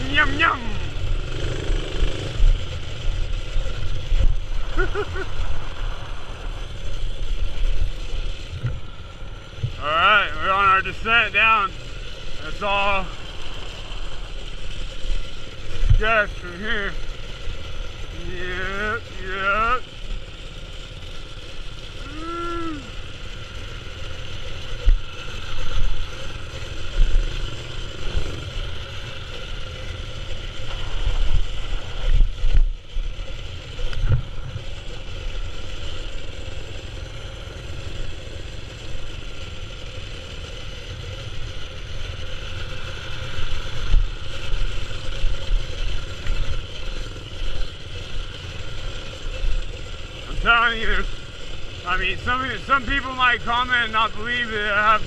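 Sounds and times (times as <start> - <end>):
mini-bike engine running: 0.0 - 55.0.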